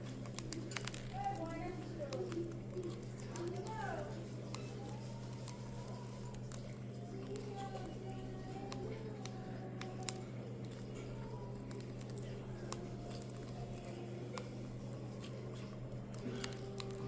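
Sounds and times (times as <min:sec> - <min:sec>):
birds pecking at seed: 0:00.0 - 0:17.0
steady low hum: 0:00.0 - 0:17.0.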